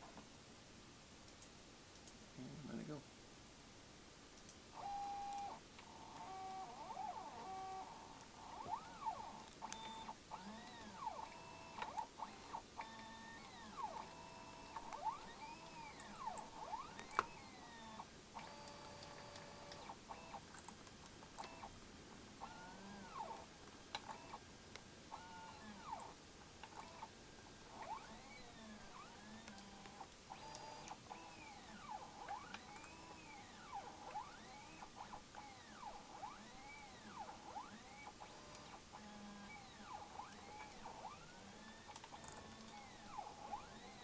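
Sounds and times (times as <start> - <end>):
small clicks: 1.2 - 2.2, 4.4 - 21.8, 22.4 - 27.1, 27.7 - 44.0
stepper motors whining: 4.8 - 20.4, 22.4 - 24.4, 25.1 - 27.1, 27.7 - 44.0.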